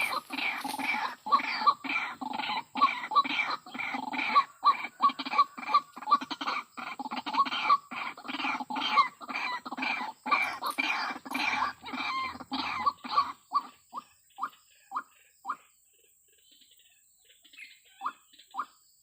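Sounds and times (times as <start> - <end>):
bird croaking calls: 0.0 - 15.8, 16.4 - 18.8.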